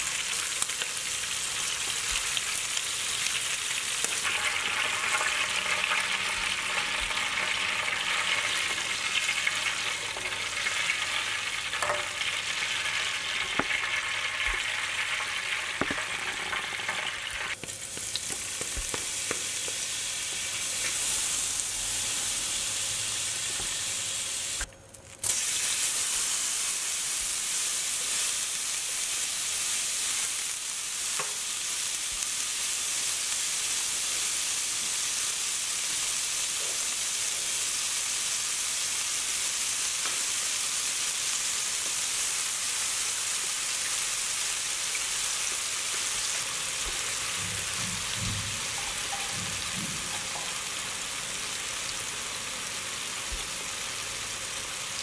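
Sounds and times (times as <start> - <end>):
oil sizzling in a pan: 0.0 - 55.0.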